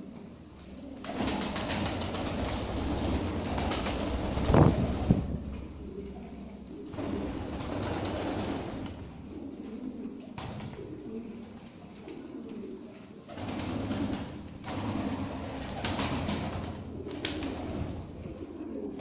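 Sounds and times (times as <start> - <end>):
pigeons cooing: 0.0 - 19.0
wings fluttering: 0.0 - 19.0.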